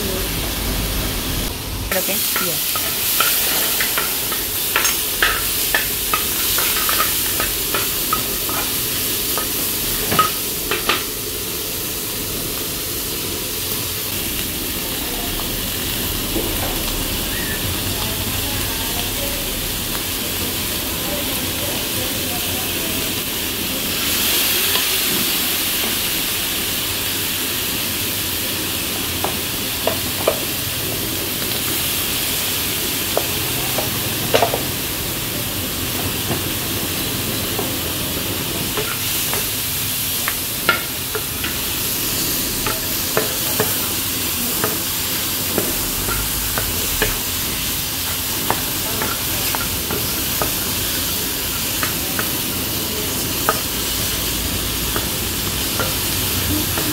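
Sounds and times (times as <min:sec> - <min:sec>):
food sizzling in a frying pan: 0:00.0 - 0:56.9.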